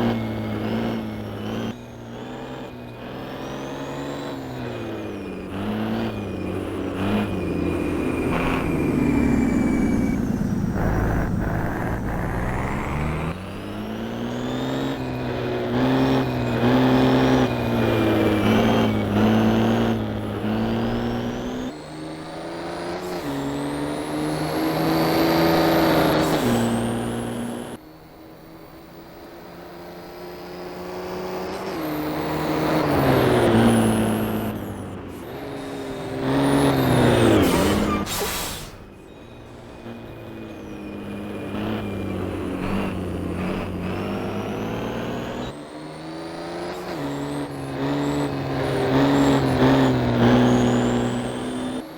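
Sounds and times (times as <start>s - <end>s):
trucks accelerating and shifting gears: 0.0s - 51.9s
trucks passing by: 0.0s - 51.9s.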